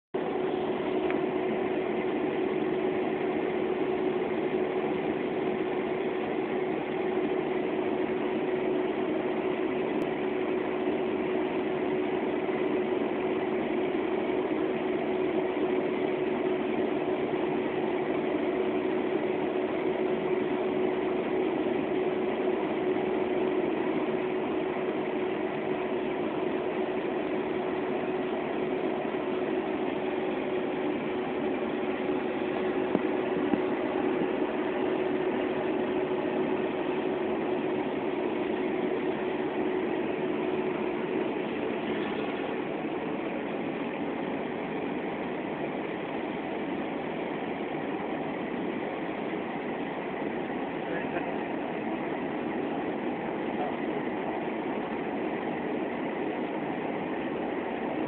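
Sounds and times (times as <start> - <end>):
press machine humming: 0.2 - 58.0.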